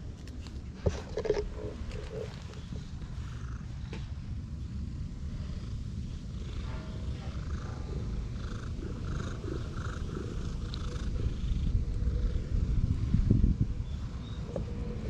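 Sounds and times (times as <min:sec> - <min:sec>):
cat purring: 0:00.9 - 0:15.0.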